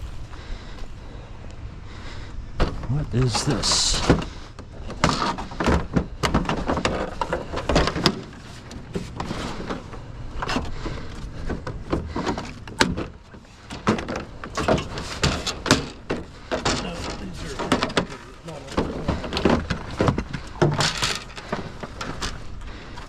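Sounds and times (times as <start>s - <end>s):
scrap items knocking and clattering: 2.6s - 22.4s.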